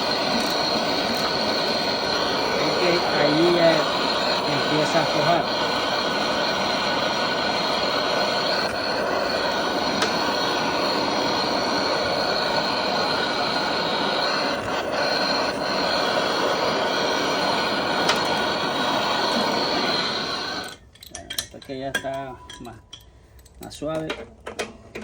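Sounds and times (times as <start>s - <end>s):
heat gun blowing: 0.0s - 20.8s.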